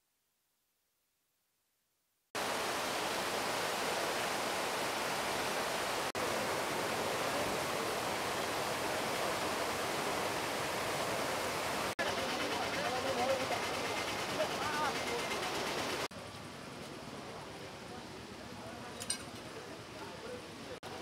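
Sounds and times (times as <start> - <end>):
river in flood rushing: 2.4 - 21.0.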